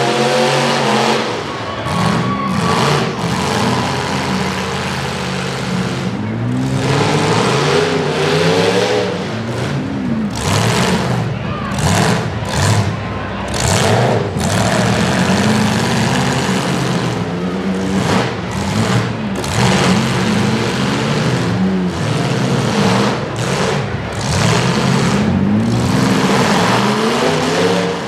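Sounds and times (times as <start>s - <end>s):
truck engines revving: 0.0s - 28.0s.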